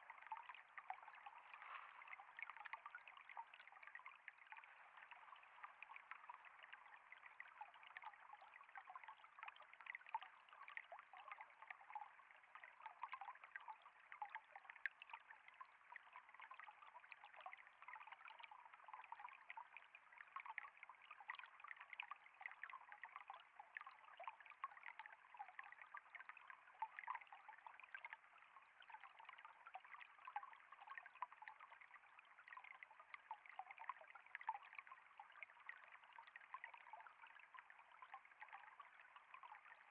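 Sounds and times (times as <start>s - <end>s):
water trickling and flowing: 0.0s - 39.9s.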